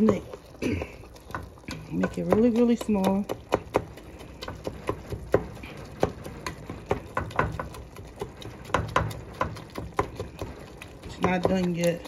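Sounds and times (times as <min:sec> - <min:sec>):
plastic tool knocking and scraping pan: 0:00.0 - 0:12.0.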